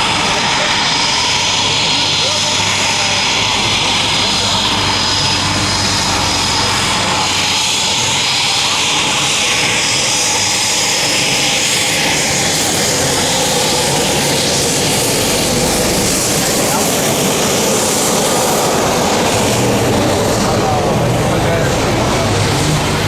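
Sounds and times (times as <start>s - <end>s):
helicopter turbine and rotor noise: 0.0s - 23.0s.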